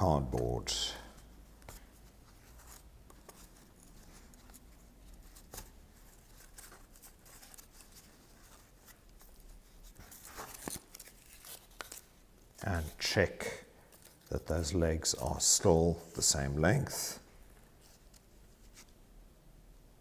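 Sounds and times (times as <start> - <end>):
cord and cardboard rustling: 0.0 - 19.0.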